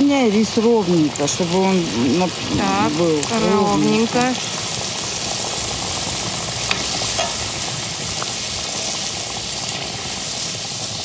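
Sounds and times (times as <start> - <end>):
rice and water sizzling and bubbling: 0.0 - 11.0.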